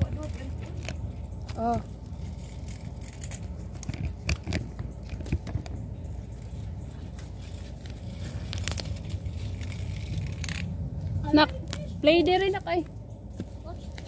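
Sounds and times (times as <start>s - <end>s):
low steady rumble: 0.0s - 14.0s
sand scraping and clicking: 0.0s - 14.0s.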